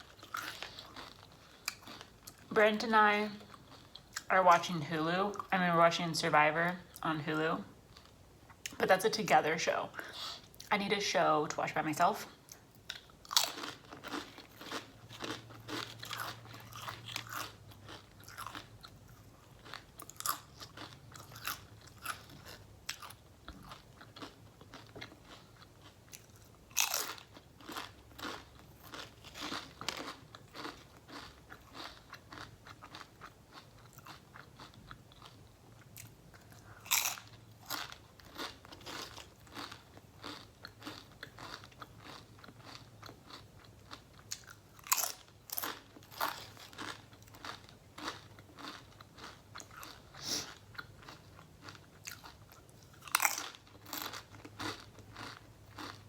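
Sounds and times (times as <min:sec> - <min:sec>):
crunchy chewing: 0:00.0 - 0:02.5, 0:12.5 - 0:56.0.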